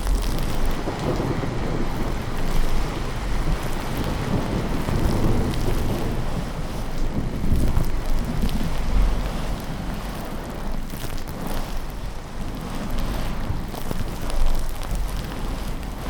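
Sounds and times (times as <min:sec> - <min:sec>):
low rolling thunder: 0:00.0 - 0:16.0
steady rain: 0:00.0 - 0:16.0.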